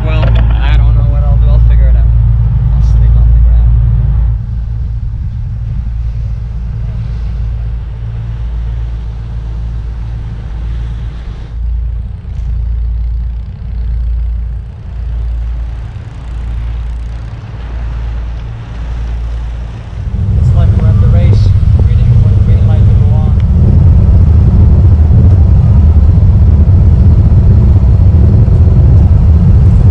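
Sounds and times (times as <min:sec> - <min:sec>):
ferry engine rumble: 0:00.0 - 0:29.9
wind buffeting microphone: 0:00.0 - 0:29.9.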